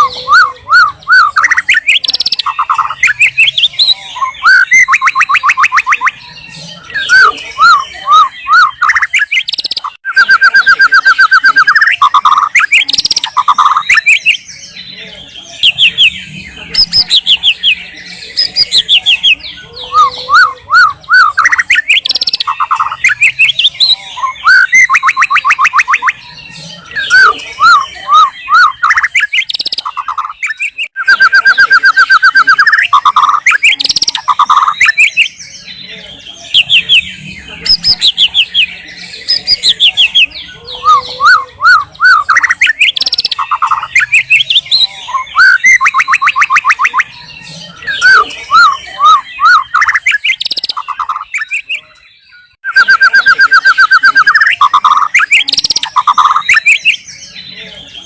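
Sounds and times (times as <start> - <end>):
songbird singing trills and whistles: 0.0 - 58.0.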